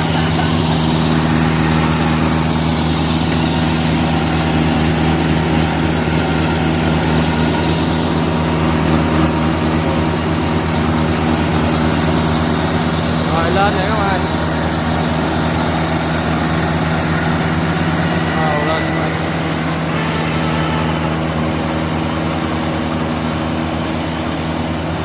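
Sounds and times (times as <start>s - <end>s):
tractor and combine diesel engines: 0.0s - 25.0s.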